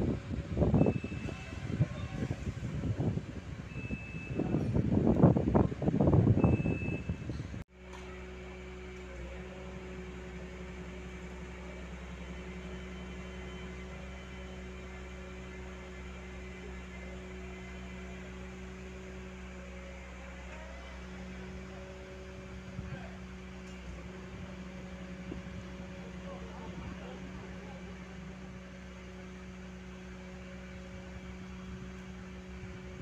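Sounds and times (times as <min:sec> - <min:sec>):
diesel engine humming: 0:00.0 - 0:33.0.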